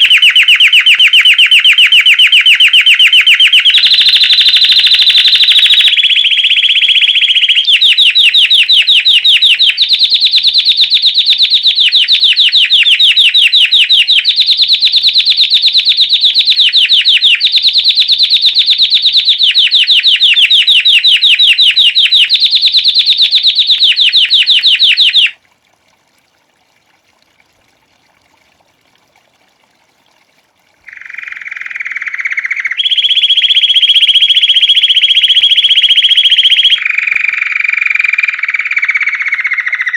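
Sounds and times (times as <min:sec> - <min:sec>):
canary singing trilled song: 0:00.0 - 0:25.4, 0:30.9 - 0:39.9.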